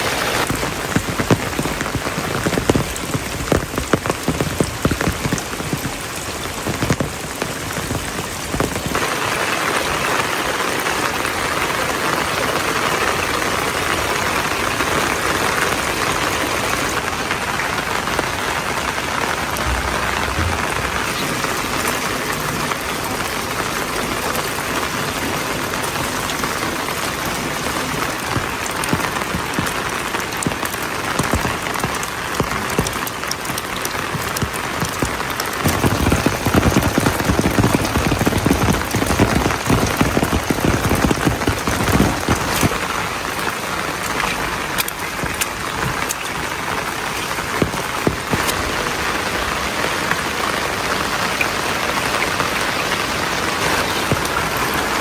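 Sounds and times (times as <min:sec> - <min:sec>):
raindrops striking close by: 0:00.0 - 0:55.0
steady rain falling: 0:00.0 - 0:55.0.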